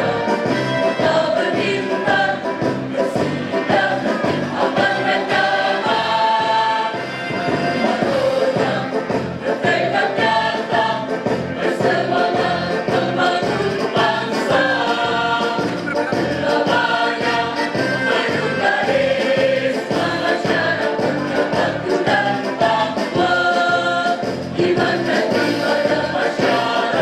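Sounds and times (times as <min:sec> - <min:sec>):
choir singing a march song: 0:00.0 - 0:27.0
steady rhythmic beat: 0:00.0 - 0:27.0.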